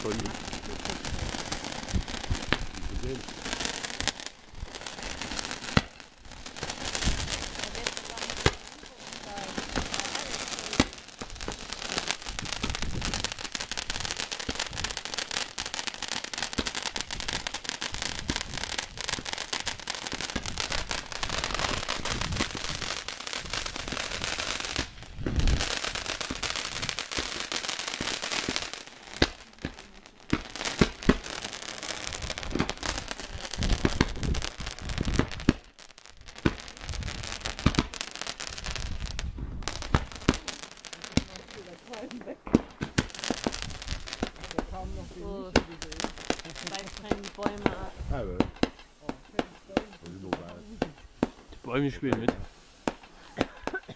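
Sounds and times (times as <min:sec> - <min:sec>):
firework bangs: 0:00.0 - 0:53.9
fireworks crackling and popping: 0:00.0 - 0:53.9.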